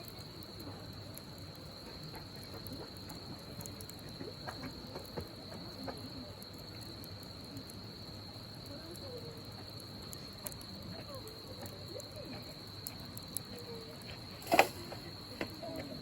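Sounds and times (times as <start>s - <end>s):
campfire crackling and popping: 0.0s - 16.0s
crickets trilling: 0.0s - 16.0s.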